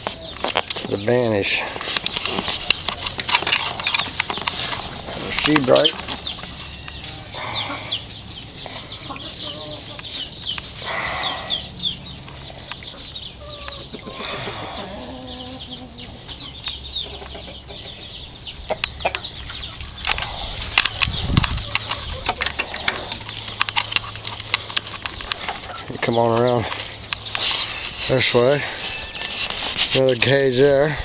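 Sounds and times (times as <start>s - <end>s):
chickens clucking and chirping: 0.0s - 31.0s.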